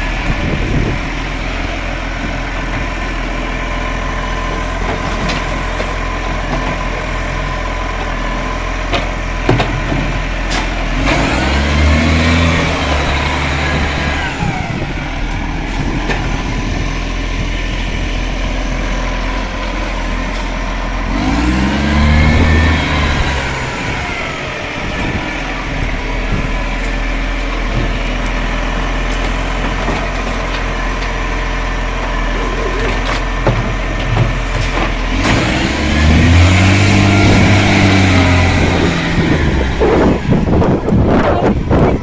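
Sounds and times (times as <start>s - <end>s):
truck diesel engine revving: 0.0s - 42.0s.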